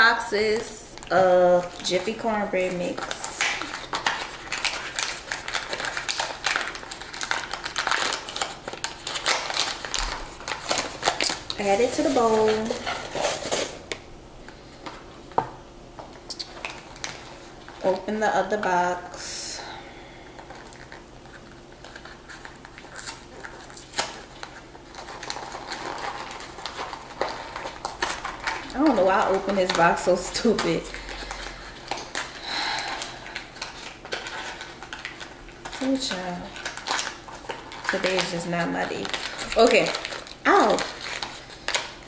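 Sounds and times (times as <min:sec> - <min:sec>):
paper crinkling and tearing: 0:01.8 - 0:13.9, 0:20.3 - 0:42.0.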